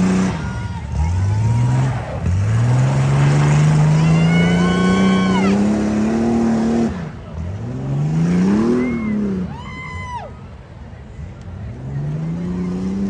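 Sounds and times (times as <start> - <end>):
truck engine accelerating hard: 0.0 - 13.0.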